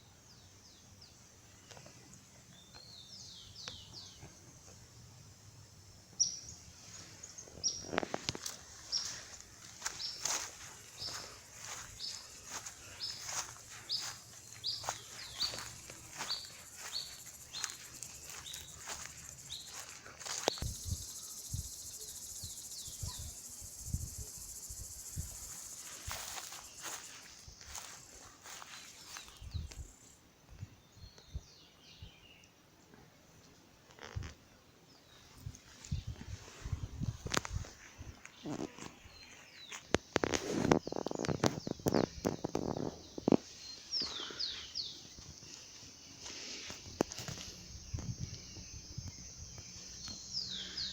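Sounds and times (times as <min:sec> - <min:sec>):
birds singing: 0:00.2 - 0:04.8, 0:06.1 - 0:30.2, 0:38.2 - 0:50.9
crickets chirping: 0:00.4 - 0:30.3, 0:35.0 - 0:50.9.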